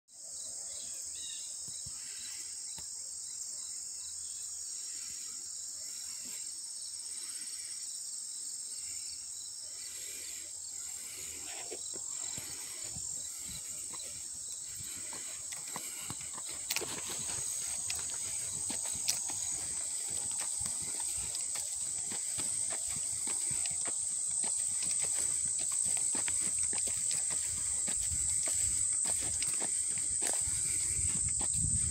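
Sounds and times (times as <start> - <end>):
insects trilling: 0.1 - 31.9.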